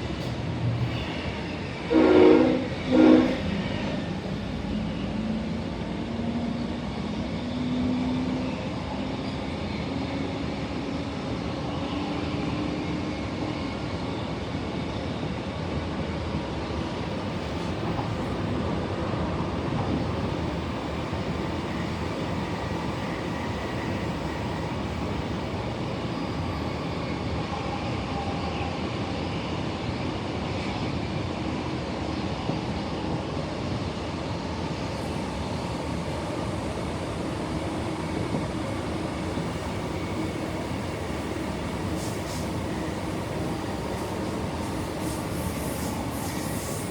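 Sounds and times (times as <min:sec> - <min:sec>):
electric train rail rumble: 0:00.0 - 0:46.9.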